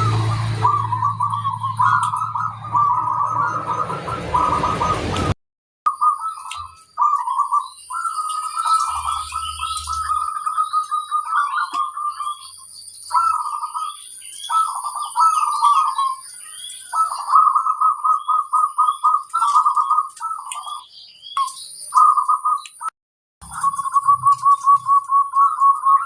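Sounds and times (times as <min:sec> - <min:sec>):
small birds chirping: 0:00.0 - 0:05.2, 0:05.9 - 0:26.0
doves calling in trilled phrases: 0:00.0 - 0:05.3, 0:05.9 - 0:26.0.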